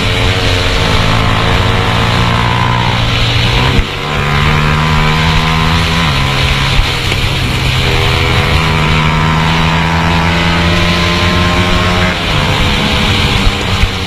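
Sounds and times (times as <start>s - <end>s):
motorcycle engine revving high: 0.0s - 14.0s.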